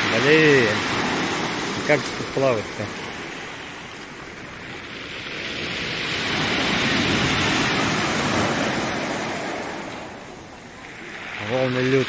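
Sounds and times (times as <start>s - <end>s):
wave washing over pebbles: 0.0s - 12.0s.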